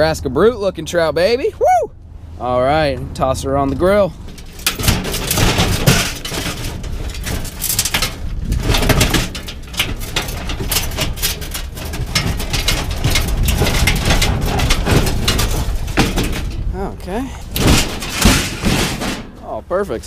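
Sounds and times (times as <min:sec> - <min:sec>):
low rumble: 0:00.0 - 0:20.0
metal frame clanking and rattling: 0:03.6 - 0:20.0.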